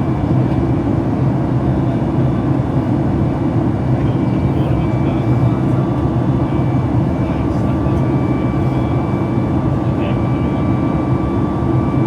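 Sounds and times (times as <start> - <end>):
aircraft cabin engine noise: 0.0 - 12.0.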